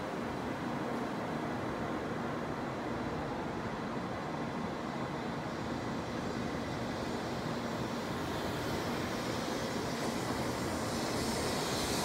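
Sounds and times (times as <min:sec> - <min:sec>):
train rolling past slowly: 0:00.0 - 0:12.0.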